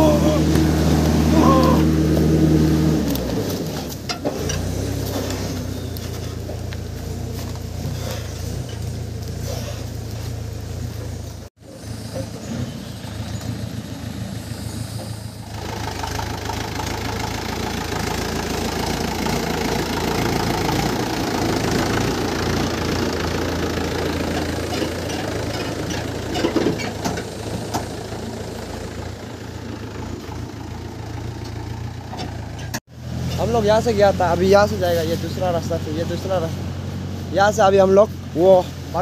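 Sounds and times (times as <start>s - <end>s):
tractor engine droning: 0.0s - 39.0s.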